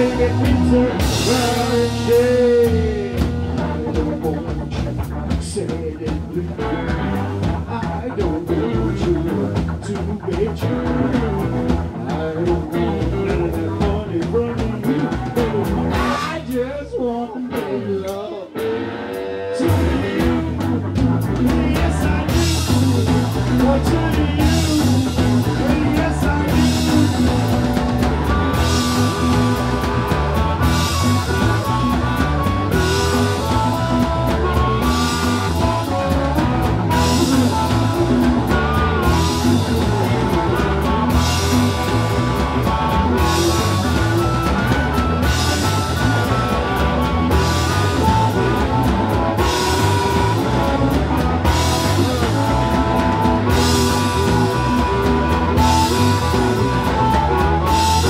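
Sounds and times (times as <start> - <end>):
blues-rock band playing: 0.0 - 58.0
electric guitar lead line: 0.0 - 58.0.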